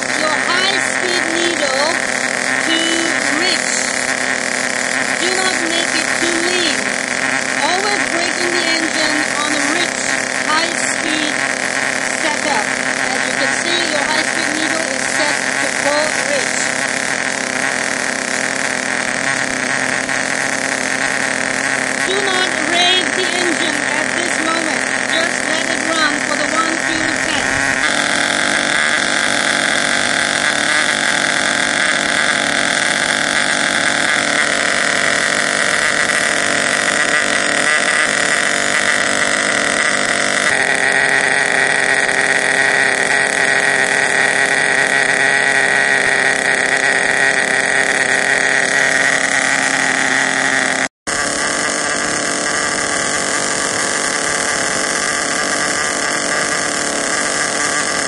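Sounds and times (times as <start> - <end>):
small engine high-pitched buzz: 0.0 - 58.0.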